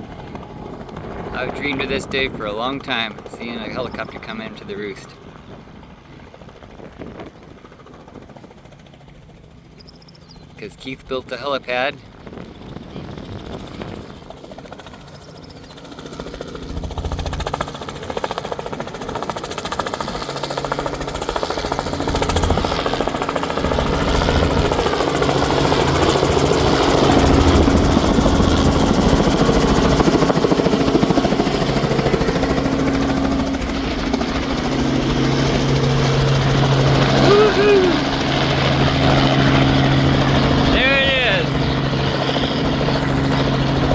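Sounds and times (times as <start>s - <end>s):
helicopter engine whine: 0.0s - 43.9s
helicopter rotor blades beating: 0.0s - 43.9s.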